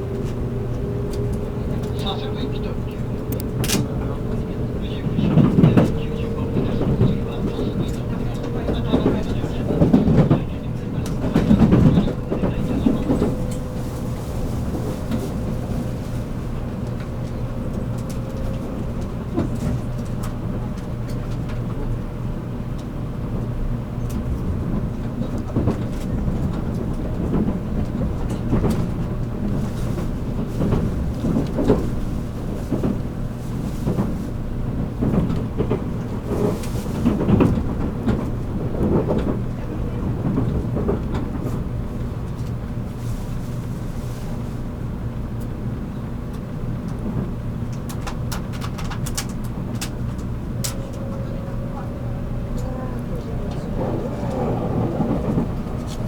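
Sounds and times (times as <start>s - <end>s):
train interior rumble and hum: 0.0s - 56.0s.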